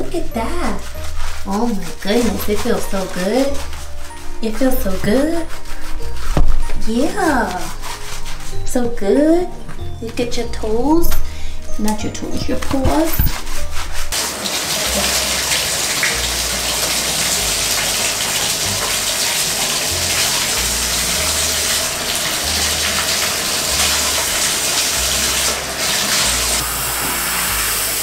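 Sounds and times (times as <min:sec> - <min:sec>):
water running into bathtub: 0:00.0 - 0:09.3, 0:11.0 - 0:28.0.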